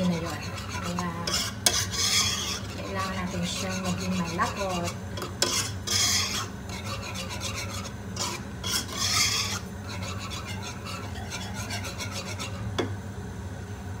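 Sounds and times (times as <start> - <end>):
utensil stirring in frying pan: 0.0 - 12.9.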